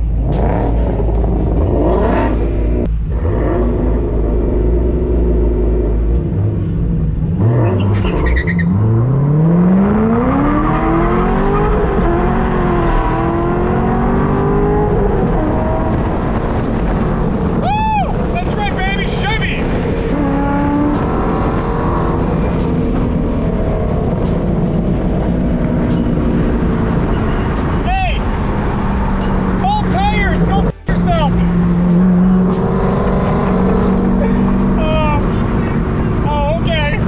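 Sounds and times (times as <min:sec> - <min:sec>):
car engine rumbling and revving: 0:00.0 - 0:37.0.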